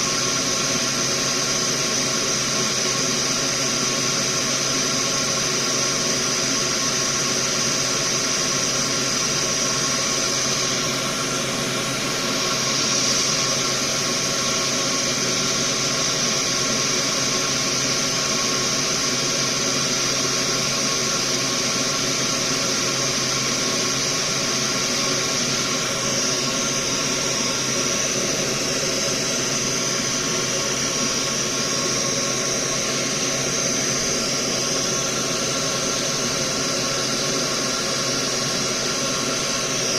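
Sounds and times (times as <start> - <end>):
electric fan whirring: 0.0 - 39.9.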